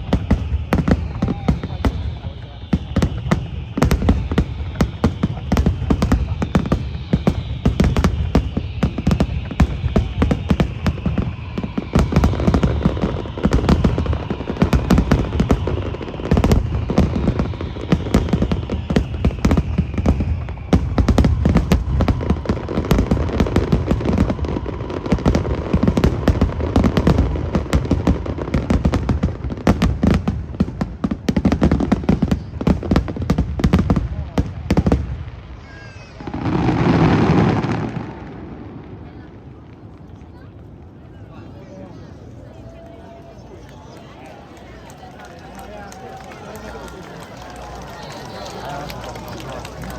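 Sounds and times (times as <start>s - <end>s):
fireworks booming and crackling: 0.0s - 49.9s.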